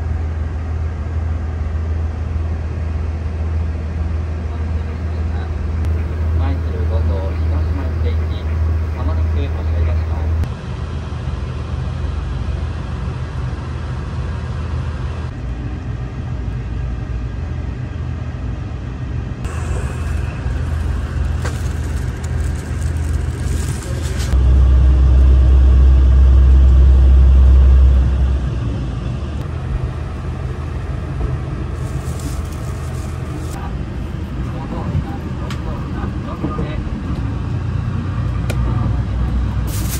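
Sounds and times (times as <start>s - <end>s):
train interior rumble: 0.0s - 39.9s.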